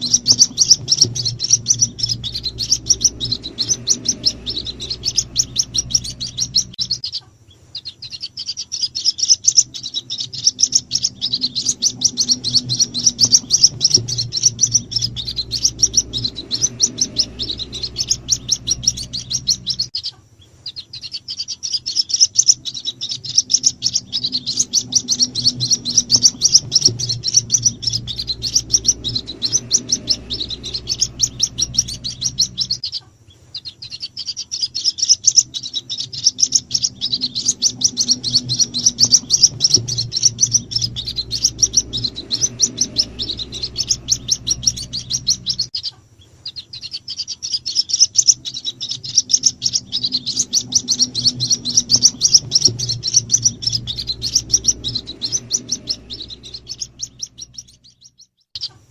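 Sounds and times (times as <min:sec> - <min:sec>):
bird chicks peeping: 0:00.0 - 0:58.9.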